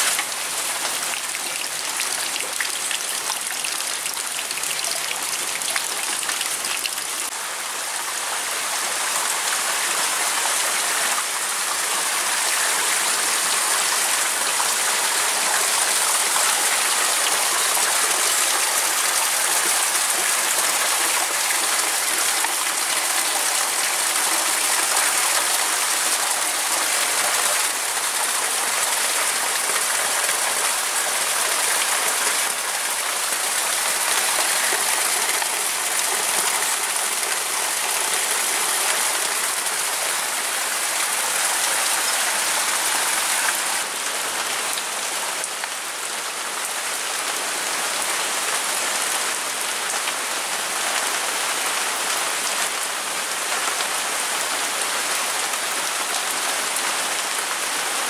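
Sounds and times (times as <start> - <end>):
rain falling: 0.0 - 58.0
runoff water pouring and splashing: 0.0 - 58.0.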